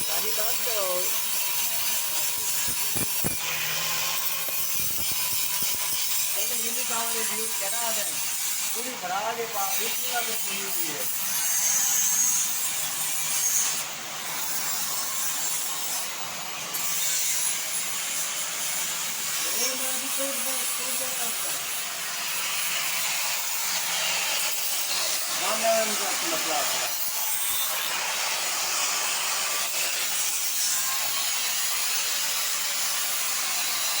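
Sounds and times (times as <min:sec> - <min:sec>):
cutting machine hissing and rasping: 0:00.0 - 0:34.0.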